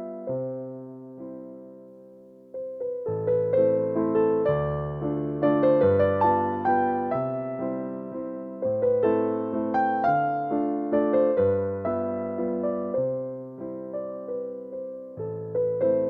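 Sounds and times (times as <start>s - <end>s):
gentle piano piece: 0.0s - 16.0s.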